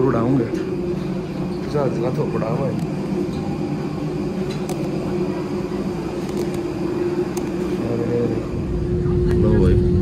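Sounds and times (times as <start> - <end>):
jet airliner engine drone: 0.0 - 10.0.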